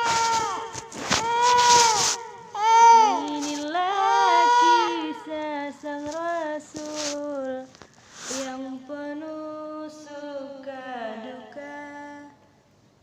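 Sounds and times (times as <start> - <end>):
small child singing: 0.0 - 7.7, 8.3 - 12.4.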